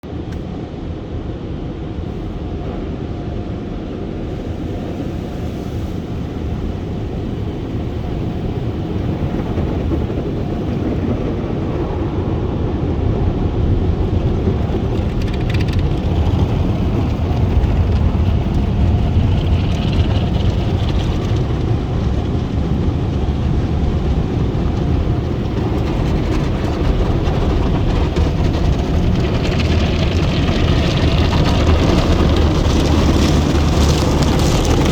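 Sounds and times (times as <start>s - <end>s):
car wash low rumble: 0.0s - 34.9s.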